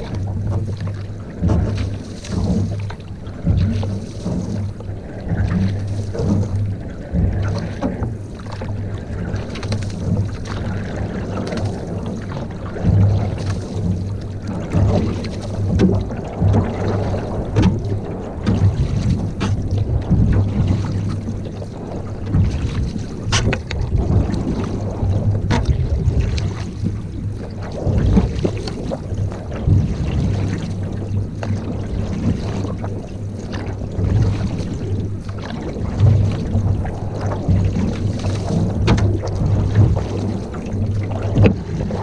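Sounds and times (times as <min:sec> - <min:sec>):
water noise: 0:00.0 - 0:42.0
wind rumble on microphone: 0:00.0 - 0:42.0.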